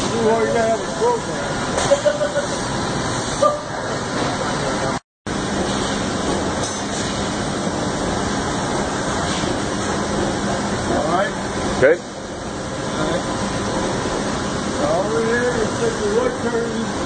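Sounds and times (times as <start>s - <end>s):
idling machine hiss and hum: 0.0s - 17.0s.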